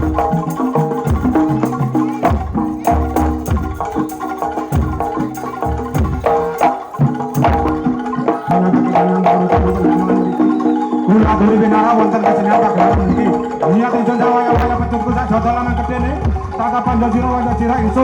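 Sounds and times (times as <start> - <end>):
hand drum strokes: 0.0 - 15.1
wavering held melody: 0.0 - 15.8
deep bass drum beats: 0.0 - 17.7
drum and gong ensemble: 0.0 - 18.0.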